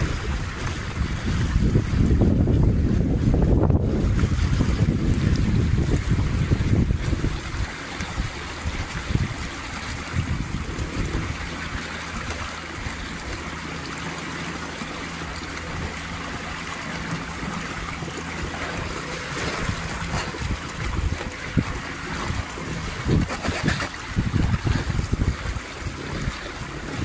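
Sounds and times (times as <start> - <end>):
boat engine hum: 0.0 - 27.0
water splashing along hull: 0.0 - 27.0
wind buffeting microphone: 0.0 - 27.0.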